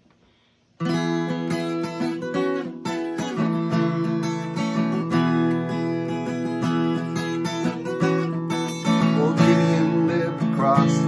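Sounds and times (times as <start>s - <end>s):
acoustic guitar strumming chords: 0.8s - 11.0s.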